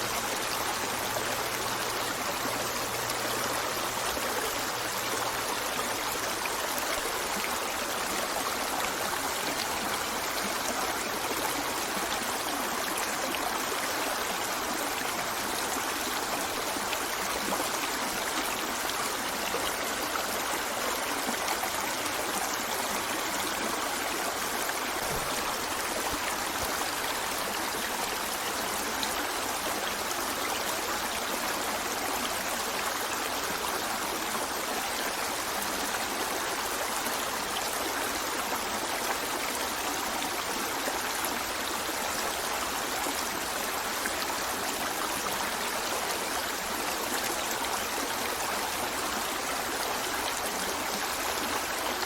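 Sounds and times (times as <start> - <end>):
river flowing over rocks: 0.0 - 52.0.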